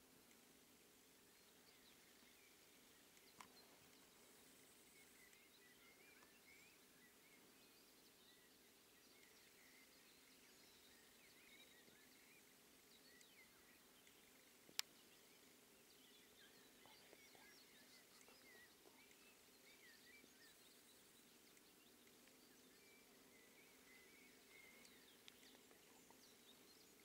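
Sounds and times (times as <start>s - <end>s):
faint birdsong chirps: 0.0s - 27.0s.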